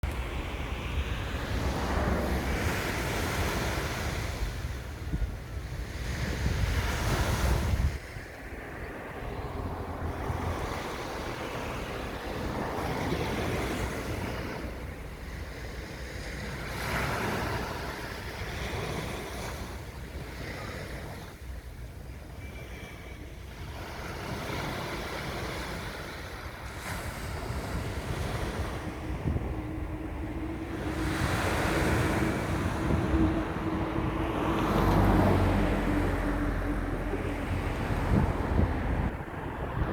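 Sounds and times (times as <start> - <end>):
wind buffeting microphone: 0.0 - 22.5, 23.1 - 39.9
sea waves washing in: 0.0 - 39.9.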